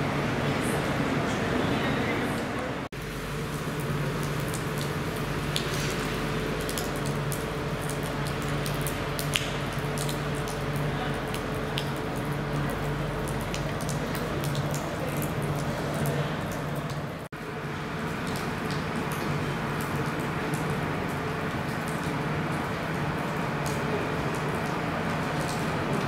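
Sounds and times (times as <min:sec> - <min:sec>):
rain on asphalt and puddles: 0:00.0 - 0:26.0.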